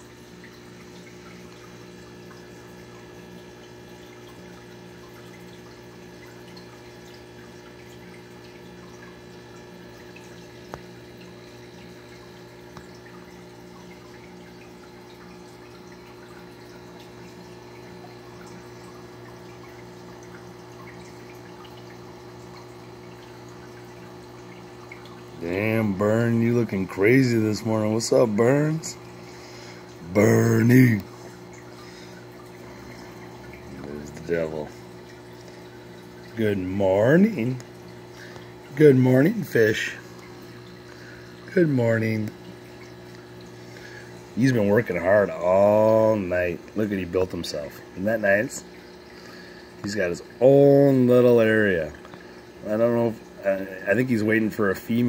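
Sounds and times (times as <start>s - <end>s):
aquarium water bubbling: 0.0s - 55.0s
steady hum: 0.0s - 55.0s.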